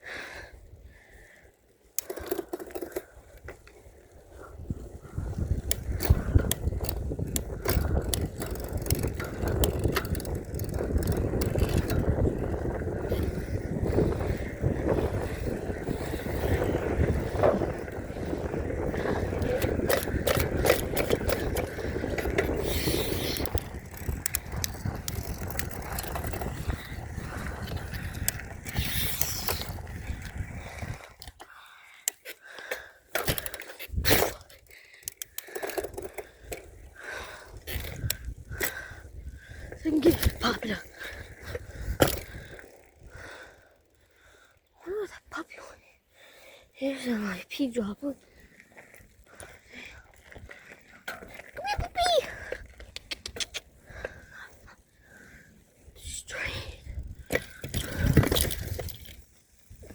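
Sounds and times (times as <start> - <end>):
mountain bike rumbling and rattling: 1.8 - 31.8, 32.4 - 45.2, 46.5 - 59.9.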